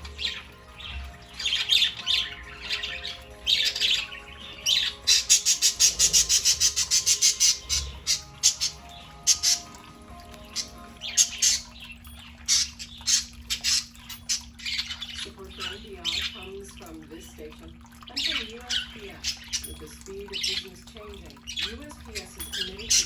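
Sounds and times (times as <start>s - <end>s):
budgerigars chirping and squawking: 0.0s - 23.0s.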